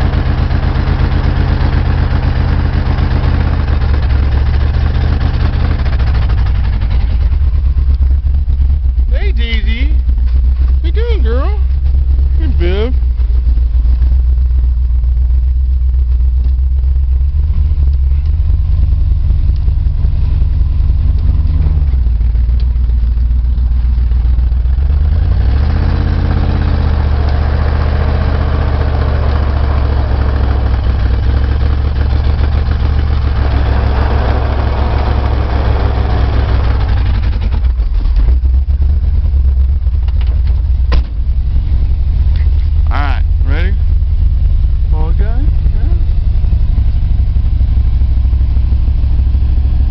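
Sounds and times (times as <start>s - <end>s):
engine rumbling and revving: 0.0s - 49.9s.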